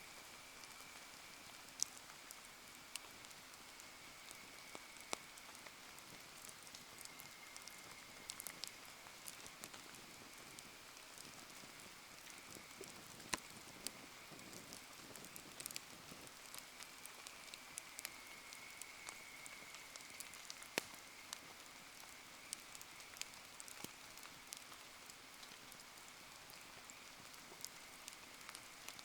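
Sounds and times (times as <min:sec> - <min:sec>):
bonfire crackling: 0:00.0 - 0:29.0
light rain pattering: 0:00.0 - 0:29.0.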